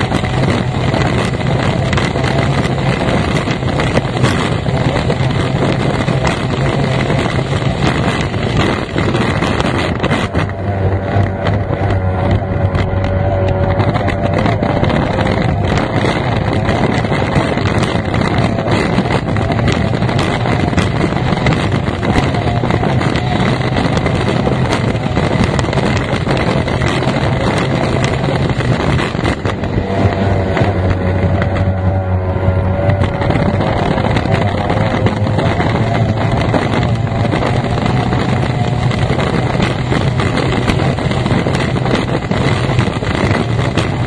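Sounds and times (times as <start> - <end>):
outboard engine running loud: 0.0 - 44.0
wind buffeting microphone: 0.0 - 44.0.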